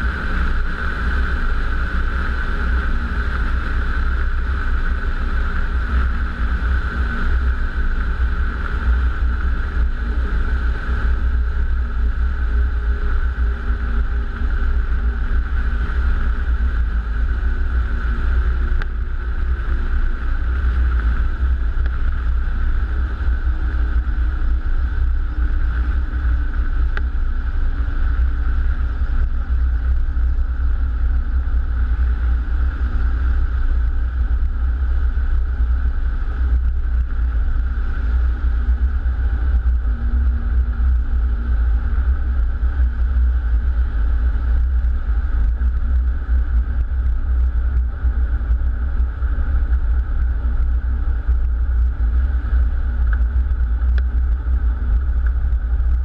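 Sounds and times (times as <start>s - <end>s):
distant piston aircraft engine droning: 0.0s - 56.0s
wind rumble on microphone: 0.0s - 56.0s.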